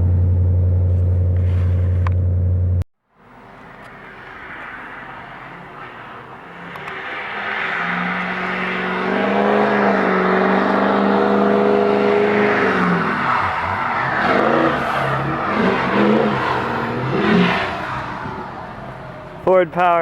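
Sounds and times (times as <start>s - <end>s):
vehicle engine revving: 0.0s - 19.5s.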